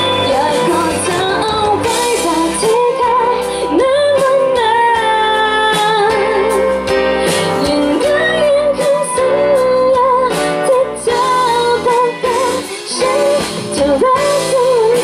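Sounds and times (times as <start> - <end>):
band accompaniment: 0.0 - 15.0
woman singing a slow pop ballad: 0.0 - 15.0.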